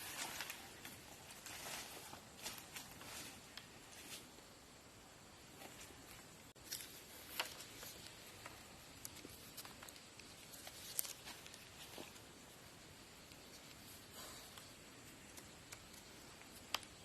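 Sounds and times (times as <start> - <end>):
quiet hiss: 0.0 - 17.0.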